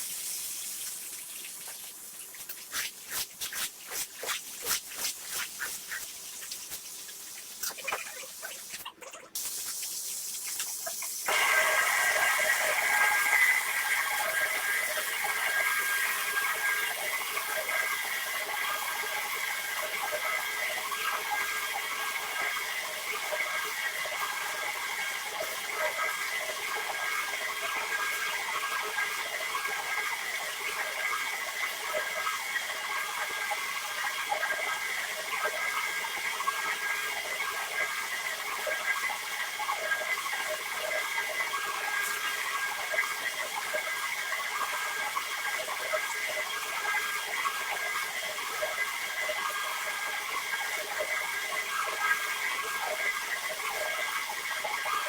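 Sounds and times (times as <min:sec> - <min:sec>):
water running and splashing: 0:00.0 - 0:55.0.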